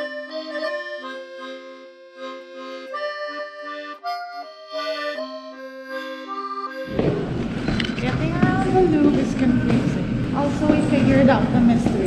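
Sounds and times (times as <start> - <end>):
accordion music: 0.0 - 12.0.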